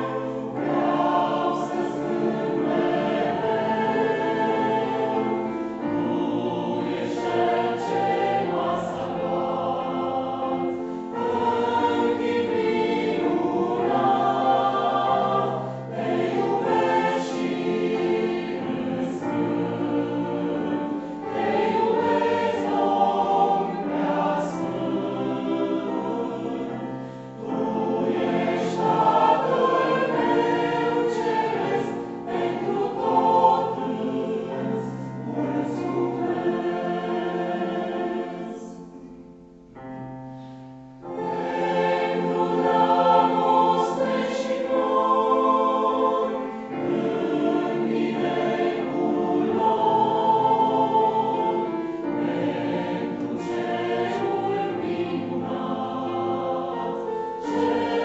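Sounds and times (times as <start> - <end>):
mixed choir singing: 0.0 - 39.4, 40.4 - 58.0.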